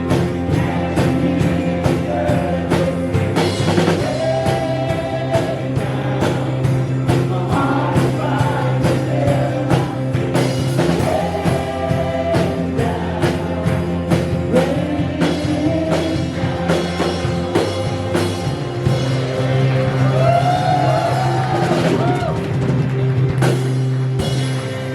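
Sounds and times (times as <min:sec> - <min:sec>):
voices singing: 0:00.0 - 0:21.9
drum kit beat: 0:00.0 - 0:24.9
held bass: 0:00.0 - 0:24.9
worship band playing: 0:00.0 - 0:24.9.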